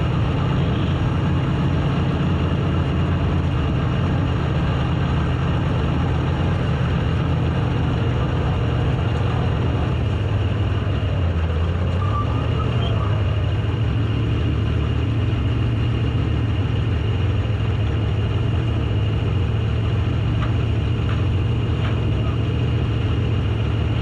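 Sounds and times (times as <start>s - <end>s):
race car engine droning: 0.0s - 24.0s.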